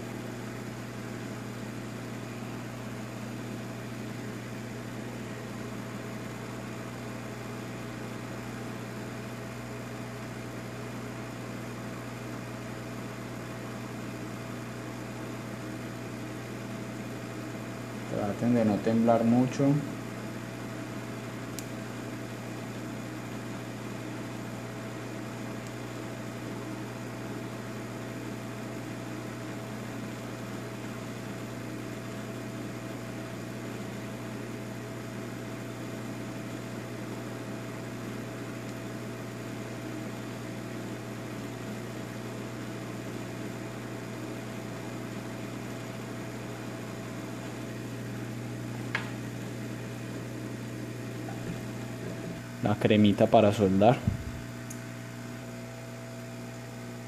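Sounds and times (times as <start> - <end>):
hot-air station hum and fan hiss: 0.0 - 57.0.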